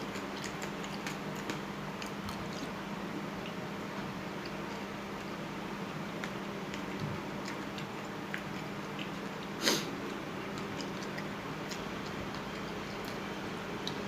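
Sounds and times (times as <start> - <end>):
faint chewing: 0.0 - 14.0
steady low hum: 0.0 - 14.0.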